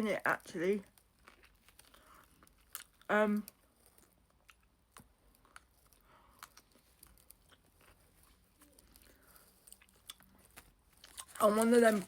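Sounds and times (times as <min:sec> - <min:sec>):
chewing sandwich: 0:00.8 - 0:11.4.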